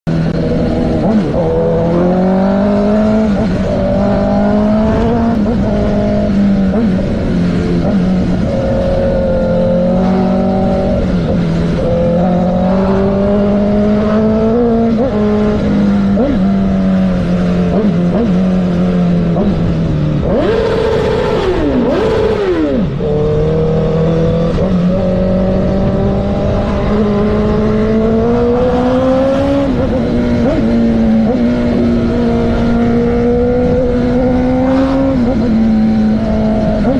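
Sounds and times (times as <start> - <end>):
motorcycle engine revving: 0.1 - 36.9.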